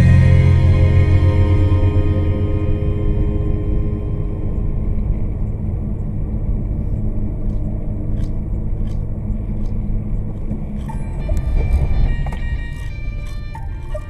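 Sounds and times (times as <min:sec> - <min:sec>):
car driving rumble: 0:00.0 - 0:14.0
steady tones: 0:00.0 - 0:14.0.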